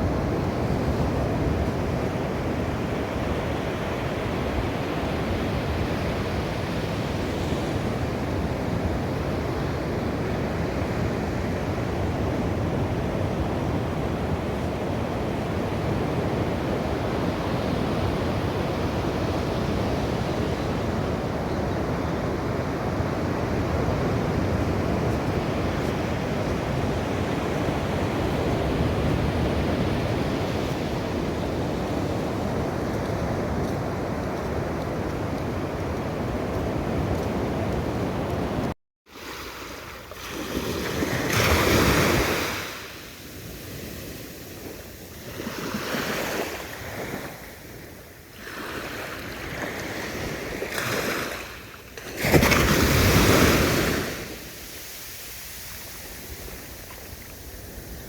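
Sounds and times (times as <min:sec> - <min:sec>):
sea waves washing on shore: 0:00.0 - 0:58.0.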